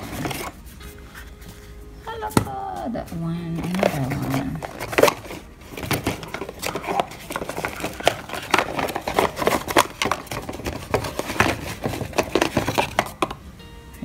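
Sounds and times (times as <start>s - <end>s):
packaging rustling and crinkling: 0.0s - 1.8s, 3.5s - 13.4s.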